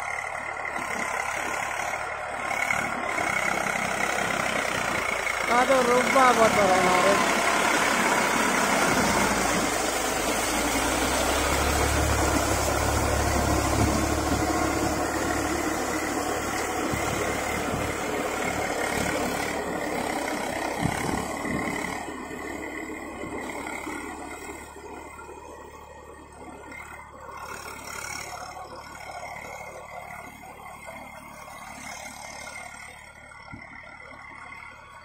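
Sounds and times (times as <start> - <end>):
tractor diesel engine: 0.0 - 35.0.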